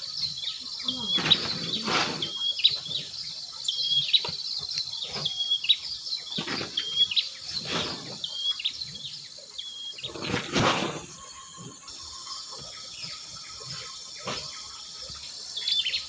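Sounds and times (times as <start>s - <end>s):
insect hiss: 0.0s - 16.0s.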